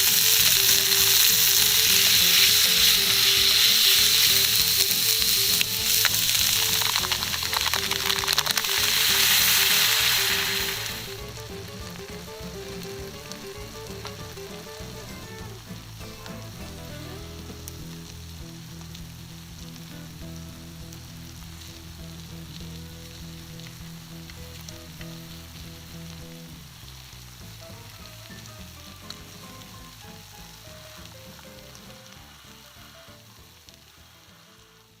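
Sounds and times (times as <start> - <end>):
food sizzling in a frying pan: 0.0 - 35.0.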